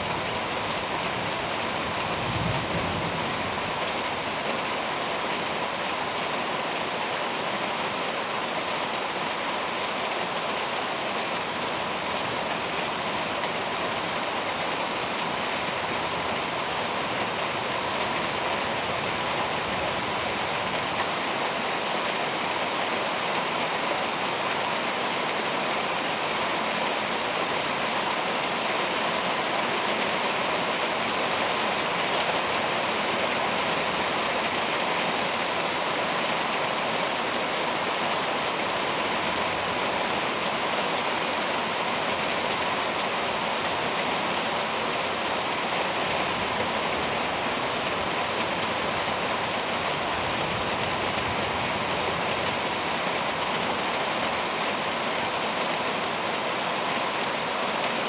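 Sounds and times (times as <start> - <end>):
heavy rain on leaves: 0.0 - 58.0.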